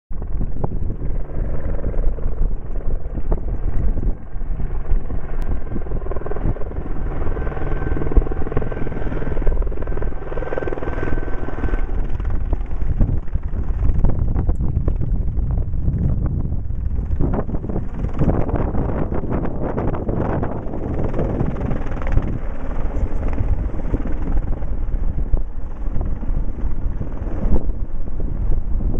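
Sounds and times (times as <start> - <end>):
helicopter rotor drone: 0.1 - 28.9.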